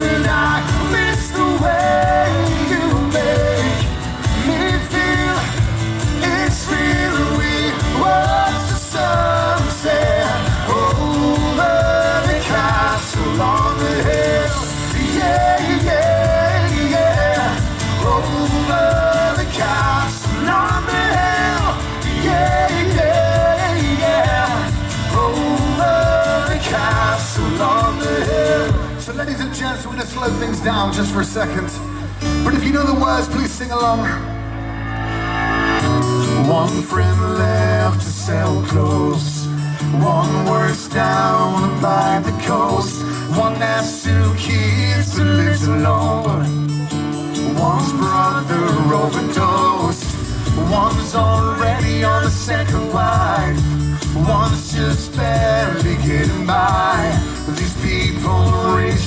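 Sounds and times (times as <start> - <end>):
lead vocalist singing: 0.0 - 34.4, 35.2 - 59.0
live band playing pop song: 0.0 - 59.0.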